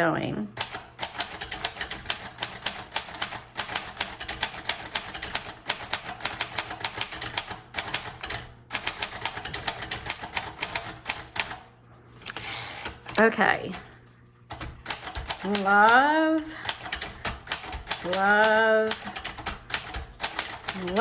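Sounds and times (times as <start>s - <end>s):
manual typewriter typing: 0.6s - 11.6s, 12.3s - 21.0s.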